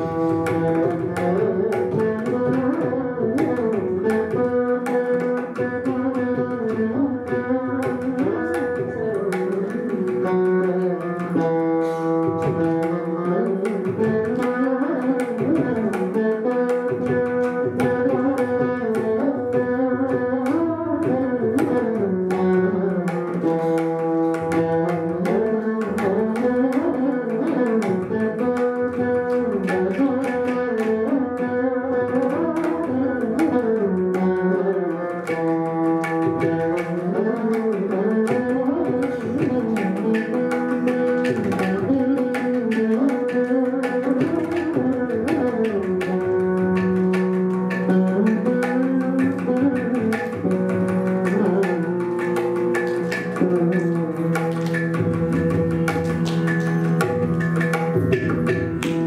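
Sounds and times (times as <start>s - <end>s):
hand drum strokes: 0.0s - 59.0s
veenas playing melody: 0.0s - 59.0s.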